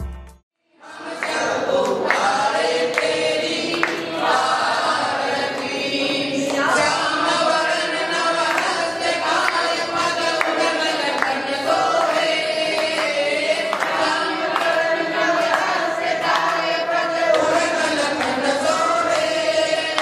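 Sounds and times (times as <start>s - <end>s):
group singing a hymn: 0.7s - 20.0s
hands clapping: 1.0s - 20.0s.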